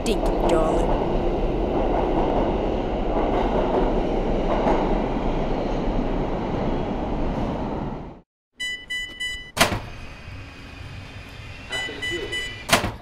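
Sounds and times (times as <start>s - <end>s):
subway train rumbling: 0.0s - 8.2s, 9.6s - 13.0s.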